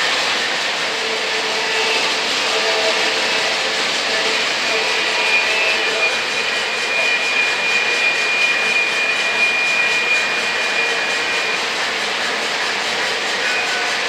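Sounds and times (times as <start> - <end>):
model trains rolling on track: 0.0 - 14.0
steady high tone: 0.8 - 14.0.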